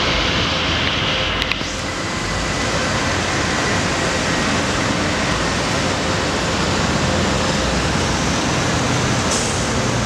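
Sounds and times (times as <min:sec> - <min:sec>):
street traffic and engines: 0:00.0 - 0:10.0.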